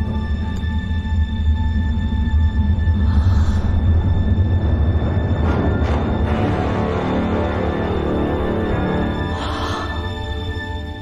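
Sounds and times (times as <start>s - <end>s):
film score music with heavy bass: 0.0s - 11.0s.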